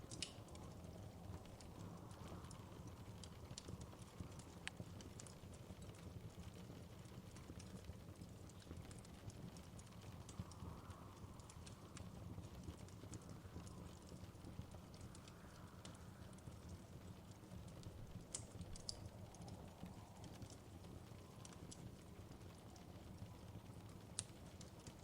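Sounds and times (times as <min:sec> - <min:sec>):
low steady rumble: 0:00.0 - 0:25.0
wood fire crackling: 0:00.0 - 0:25.0.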